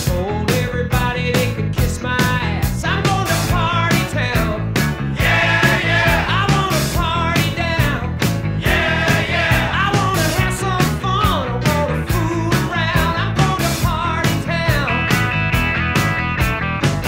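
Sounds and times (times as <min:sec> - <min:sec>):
rock music: 0:00.0 - 0:17.0
steady drumbeat: 0:01.4 - 0:15.4.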